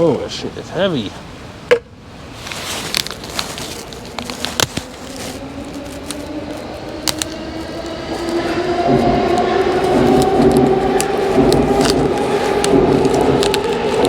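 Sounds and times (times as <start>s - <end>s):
approaching train hum: 1.7s - 14.0s.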